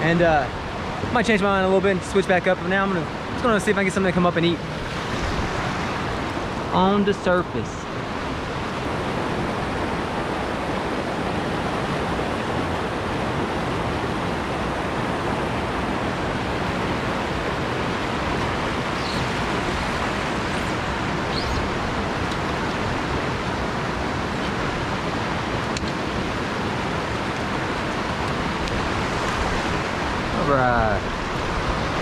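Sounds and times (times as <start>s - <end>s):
stream tumbling over rocks: 0.0s - 32.0s.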